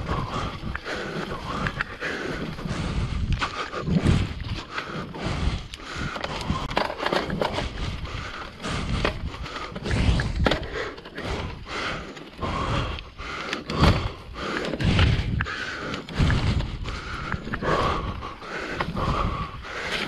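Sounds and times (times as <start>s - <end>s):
bike rattling over bumps: 0.0s - 20.0s
bike tyres crunching on dirt: 0.0s - 20.0s
wind rumbling on microphone: 0.0s - 20.0s.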